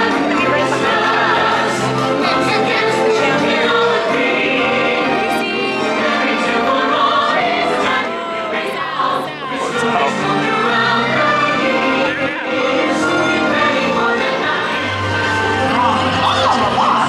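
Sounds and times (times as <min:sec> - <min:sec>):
choir singing: 0:00.0 - 0:17.0
orchestral music: 0:00.0 - 0:17.0.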